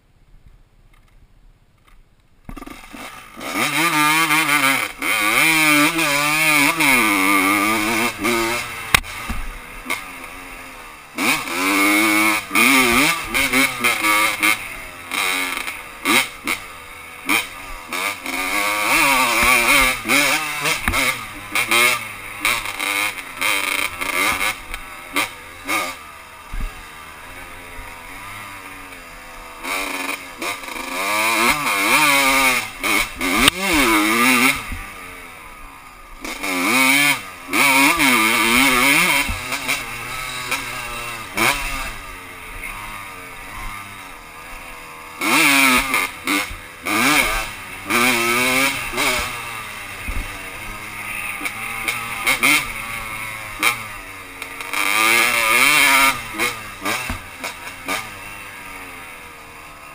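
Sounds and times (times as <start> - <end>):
motorcycle engine revving: 1.8 - 59.9.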